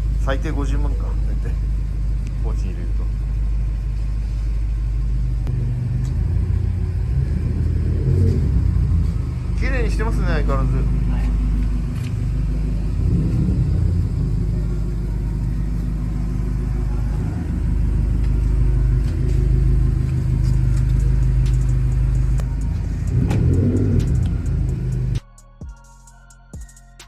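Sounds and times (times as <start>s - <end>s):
deep car exhaust rumble: 0.0s - 25.2s.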